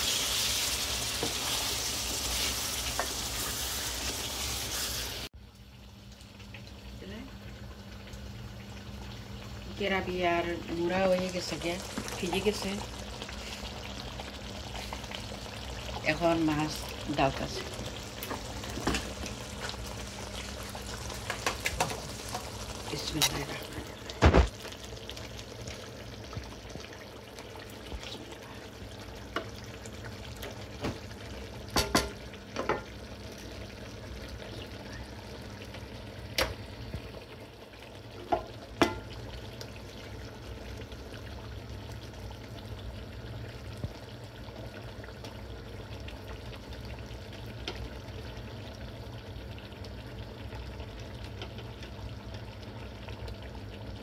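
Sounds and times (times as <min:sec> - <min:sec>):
gravy simmering in a pot: 0:00.0 - 0:54.0.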